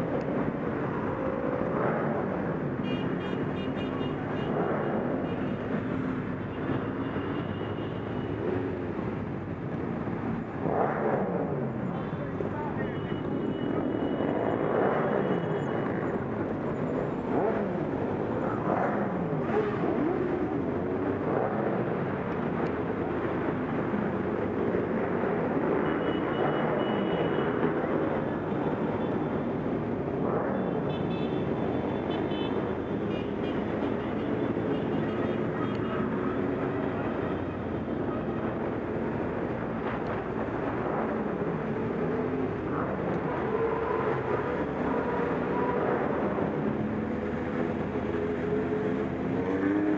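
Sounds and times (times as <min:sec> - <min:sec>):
motorcycle engines revving: 0:00.0 - 0:49.9
traffic noise: 0:00.0 - 0:49.9.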